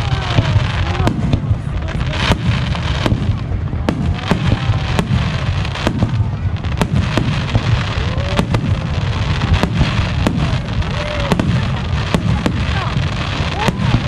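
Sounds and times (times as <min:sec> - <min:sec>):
fireworks bursting with sharp bangs: 0:00.0 - 0:14.0
low rumble of fireworks barrage: 0:00.0 - 0:14.0.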